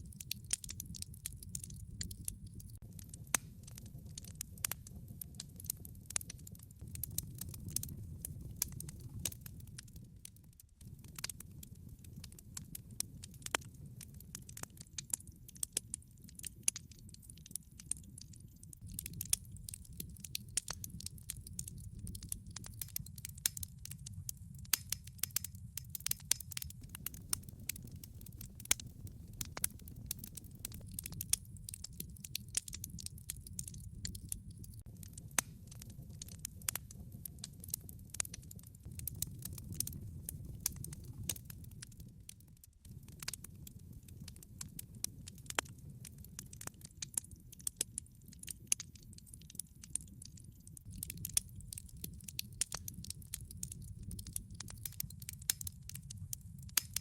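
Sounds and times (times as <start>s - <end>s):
logs crackling and popping: 0.0s - 57.0s
low rumble of flame: 0.0s - 57.0s.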